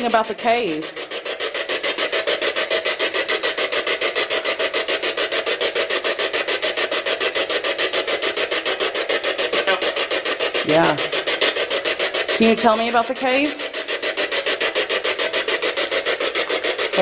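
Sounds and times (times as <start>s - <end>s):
fast chopping radio static: 0.0s - 17.0s.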